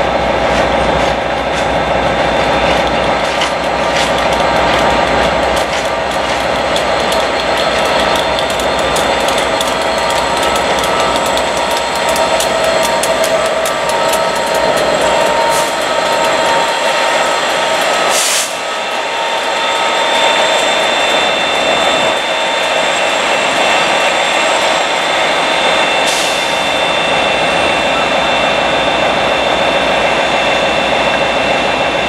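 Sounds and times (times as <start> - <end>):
train wheels clicking over rail joints: 0.0 - 27.6
diesel engine whine: 0.0 - 32.0
diesel locomotive engine running: 0.0 - 32.0.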